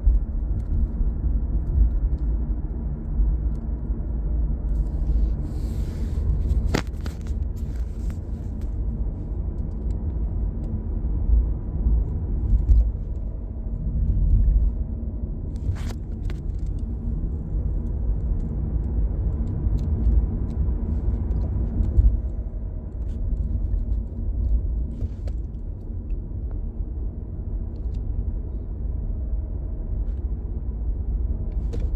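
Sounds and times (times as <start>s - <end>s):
low car rumble: 0.0s - 31.9s.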